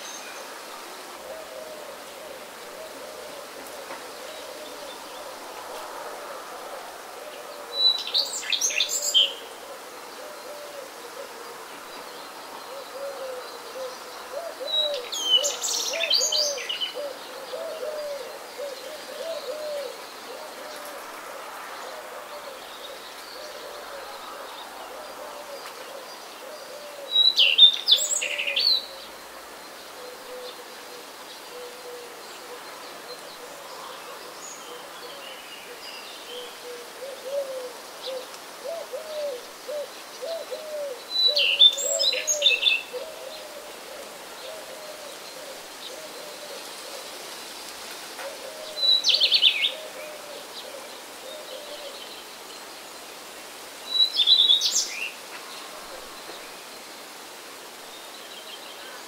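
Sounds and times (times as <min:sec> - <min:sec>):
songbird phrases: 0:00.0 - 0:47.4, 0:48.1 - 0:59.0.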